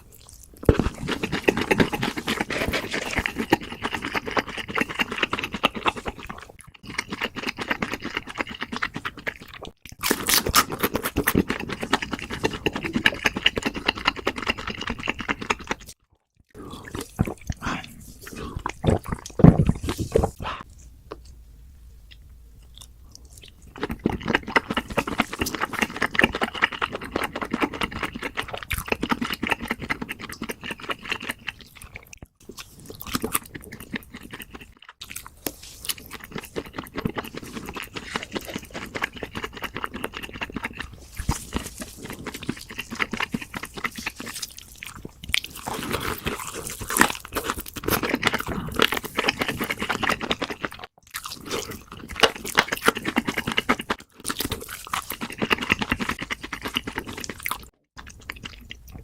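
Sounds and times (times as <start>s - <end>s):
crunchy chewing: 0.0s - 21.3s, 22.1s - 59.0s.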